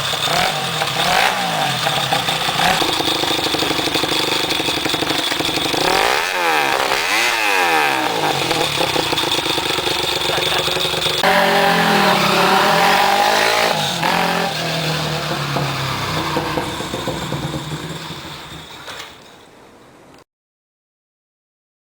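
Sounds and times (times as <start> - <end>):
motorcycle engine revving and idling: 0.0 - 19.5.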